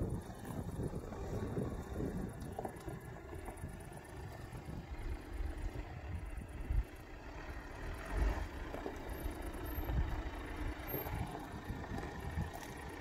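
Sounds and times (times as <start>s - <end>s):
wind buffeting microphone: 0.0s - 7.2s, 7.8s - 13.0s
car engine running low: 0.0s - 13.0s.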